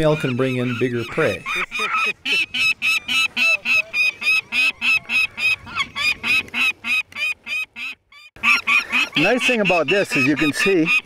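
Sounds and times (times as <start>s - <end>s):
falcon harsh calls: 0.0s - 11.0s.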